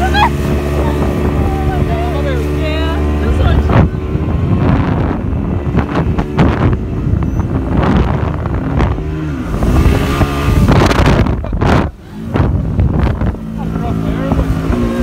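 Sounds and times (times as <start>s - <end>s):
speedboat engine running: 0.0s - 15.0s
wind buffeting microphone: 0.0s - 15.0s.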